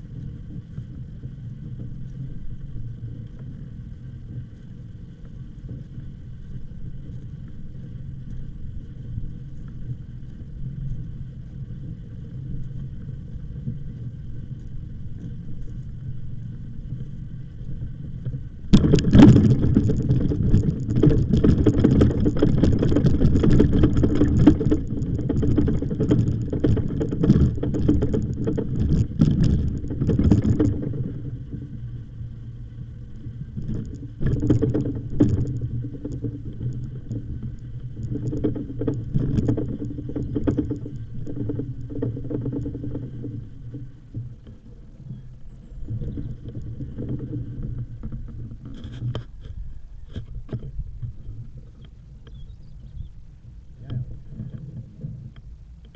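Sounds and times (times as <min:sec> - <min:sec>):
bicycle crunching and rattling: 0:00.0 - 0:53.2
bicycle tyres rumbling: 0:00.0 - 0:55.9.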